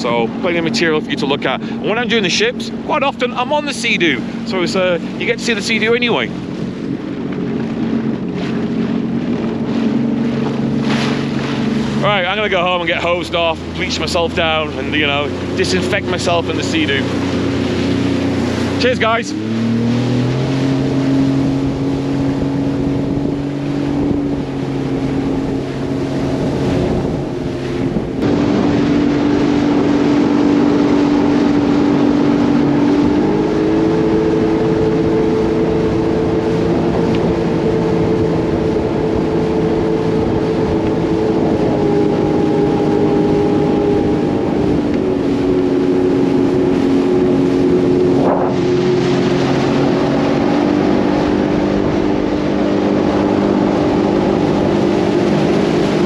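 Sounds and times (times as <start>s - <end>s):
watercraft engine running: 0.0s - 56.0s
wind on microphone: 0.0s - 56.0s.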